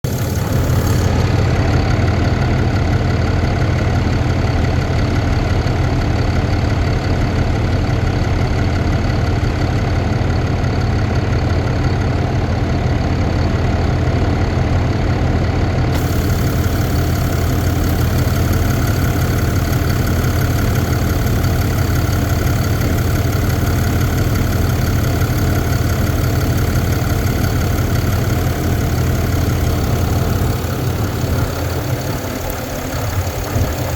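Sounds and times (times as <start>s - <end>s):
engine ticking noise: 0.0s - 13.8s, 15.8s - 33.9s
diesel engine idling: 0.0s - 33.9s.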